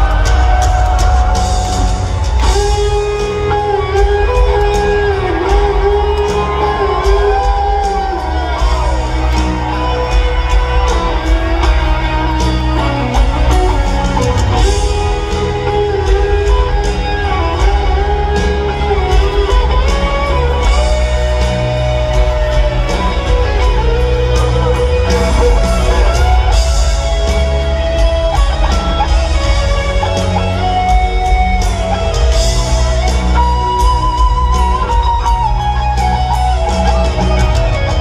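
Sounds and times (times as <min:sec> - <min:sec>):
bass: 0:00.0 - 0:38.0
drums: 0:00.0 - 0:38.0
electric guitar solo: 0:00.0 - 0:38.0
piano: 0:00.0 - 0:38.0.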